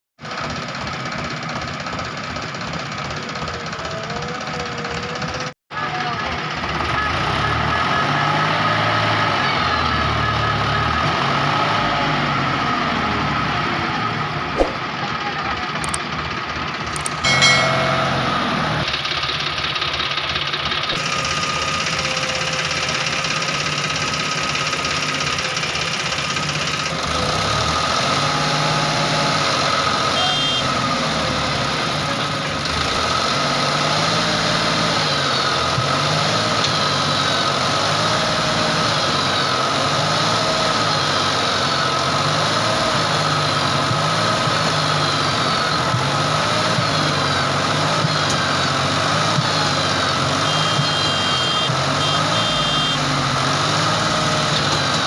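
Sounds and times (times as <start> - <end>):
backhoe diesel engine running: 0.2 - 55.0.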